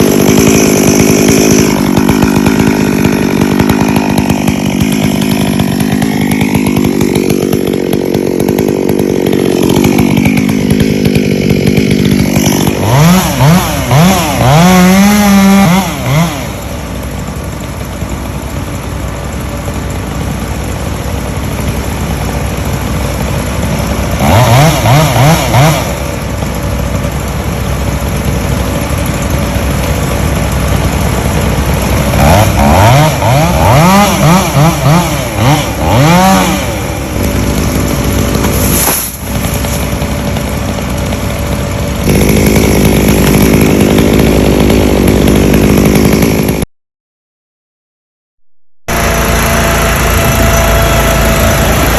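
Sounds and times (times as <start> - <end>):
chainsaw engine revving: 0.0 - 46.7, 48.9 - 51.9.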